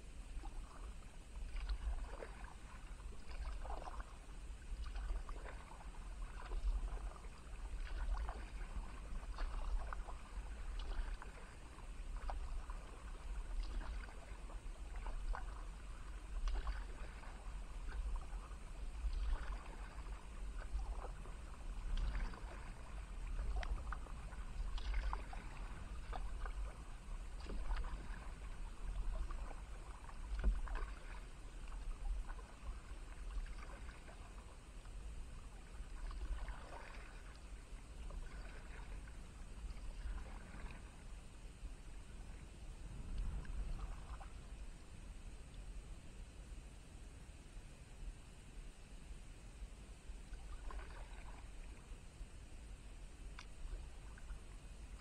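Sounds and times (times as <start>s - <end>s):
low rumble: 0.0s - 46.9s
paddle splashing and dripping: 0.3s - 41.3s, 43.0s - 44.9s, 50.2s - 51.9s, 53.2s - 55.0s.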